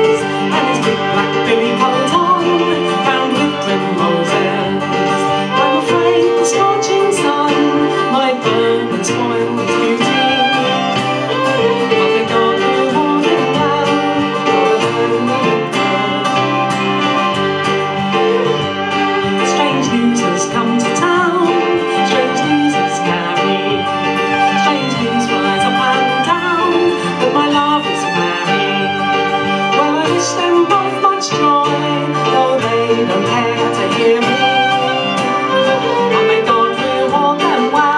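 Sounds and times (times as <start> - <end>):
fiddle playing: 0.0 - 37.9
keyboard playing: 0.0 - 37.9
strummed acoustic guitar: 0.0 - 37.9.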